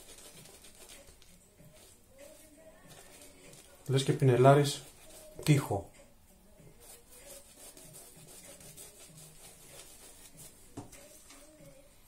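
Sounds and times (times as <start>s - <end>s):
brush working through lather: 0.0s - 5.6s, 6.8s - 11.1s.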